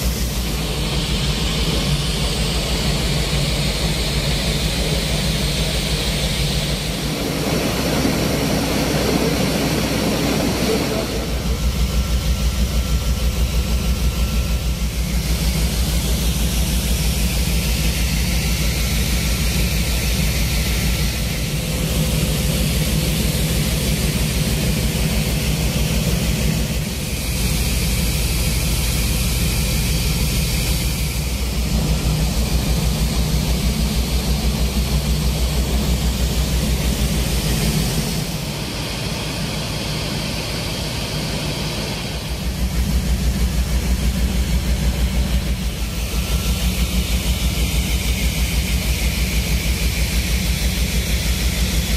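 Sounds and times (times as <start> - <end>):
aircraft engine throbbing: 0.0 - 51.9.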